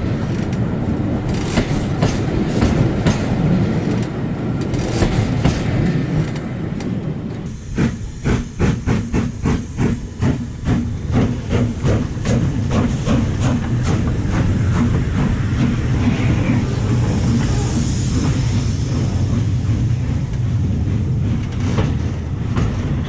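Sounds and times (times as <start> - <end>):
steam locomotive rumbling: 0.0 - 23.0.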